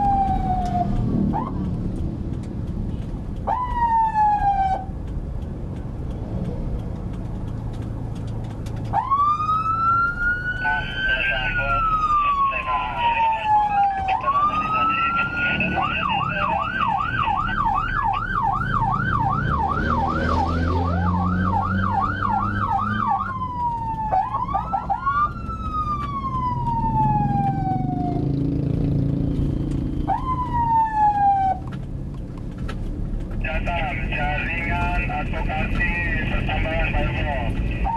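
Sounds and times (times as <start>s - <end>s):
electronic vehicle siren: 0.0s - 1.8s, 3.4s - 4.9s, 8.9s - 31.7s, 33.5s - 37.9s
engine and road rumble: 0.0s - 37.9s.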